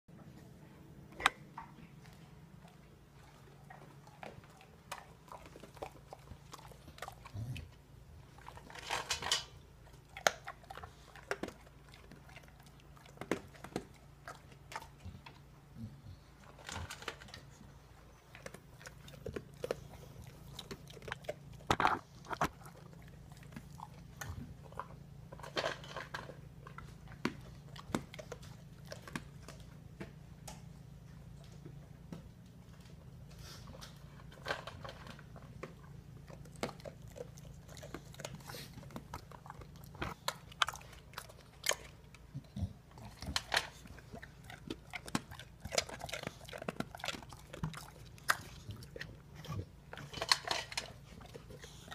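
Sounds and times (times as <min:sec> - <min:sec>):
dog chewing and crunching food: 0:00.3 - 0:51.9.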